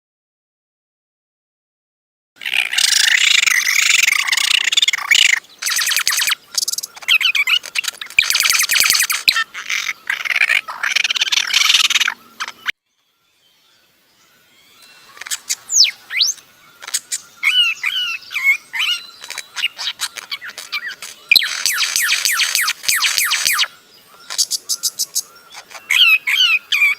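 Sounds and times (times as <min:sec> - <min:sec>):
high-pitched bird chirping chatter: 0:02.4 - 0:12.8, 0:14.7 - 0:26.9
bird whistled glides: 0:02.8 - 0:09.5, 0:10.4 - 0:26.9.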